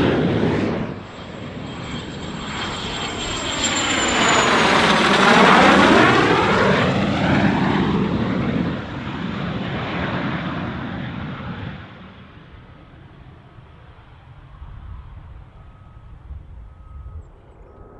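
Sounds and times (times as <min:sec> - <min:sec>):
jet aircraft passing overhead: 0:00.0 - 0:17.9.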